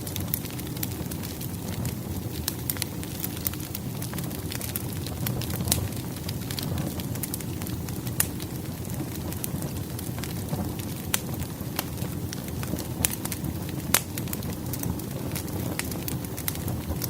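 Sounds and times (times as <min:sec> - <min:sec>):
fire flames rushing: 0:00.0 - 0:17.0
firewood crackling and popping: 0:00.0 - 0:17.0.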